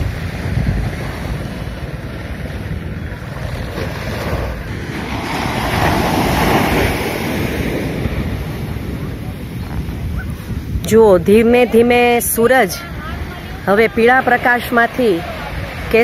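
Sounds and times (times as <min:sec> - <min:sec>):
waves washing up beach: 0:00.0 - 0:16.0
wind rumbling on microphone: 0:00.0 - 0:16.0.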